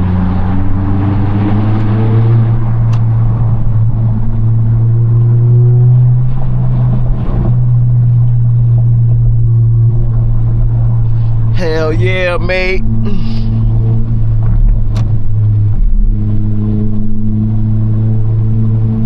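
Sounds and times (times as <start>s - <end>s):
car engine drone from inside: 0.0s - 19.0s.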